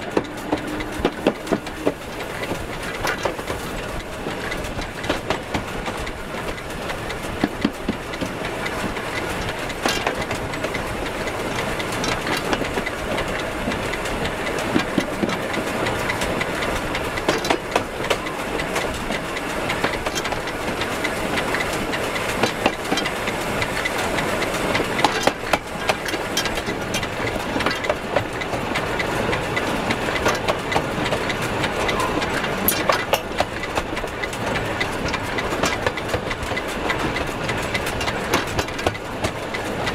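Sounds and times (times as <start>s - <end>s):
steam locomotive running: 0.0s - 39.9s
wheels knocking and clacking: 0.0s - 39.9s.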